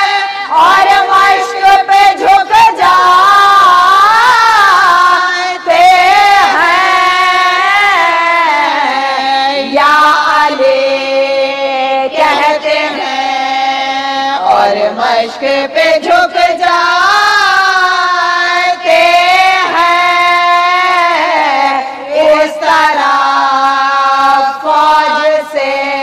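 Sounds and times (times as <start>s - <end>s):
woman chanting melodically: 0.0s - 26.0s.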